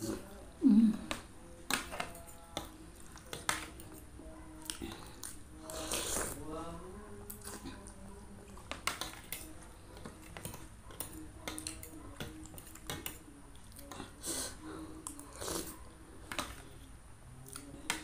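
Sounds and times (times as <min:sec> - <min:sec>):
chewing: 0:00.0 - 0:06.5, 0:07.2 - 0:18.0.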